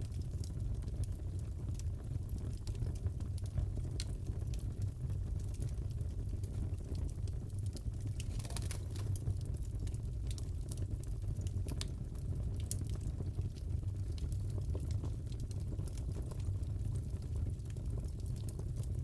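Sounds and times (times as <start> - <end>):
fire pops and crackles: 0.0 - 19.0
fireplace burning rumble: 0.0 - 19.0.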